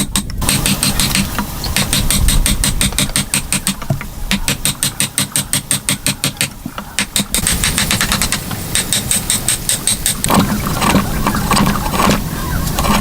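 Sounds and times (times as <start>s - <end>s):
machine knocking rapidly: 0.0s - 12.2s.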